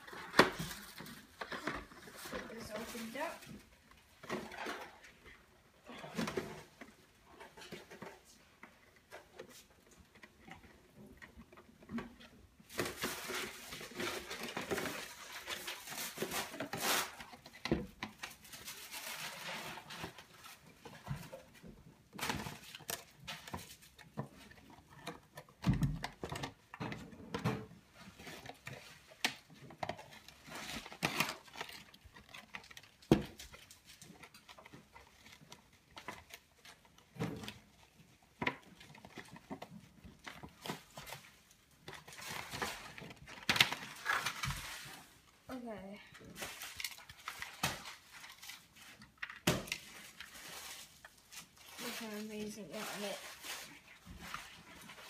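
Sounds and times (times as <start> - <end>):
packaging rustling and crinkling: 0.0 - 55.0.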